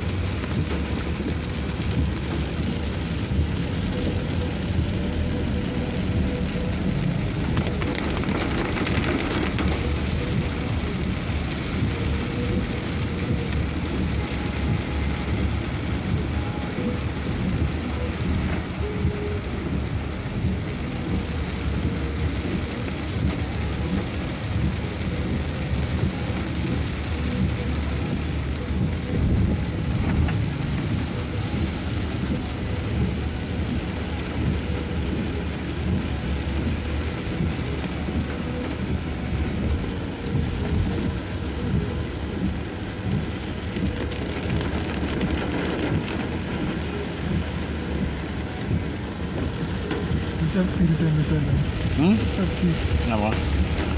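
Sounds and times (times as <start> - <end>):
low rumble of car and road: 0.0 - 53.9
rain falling on car: 0.0 - 53.9.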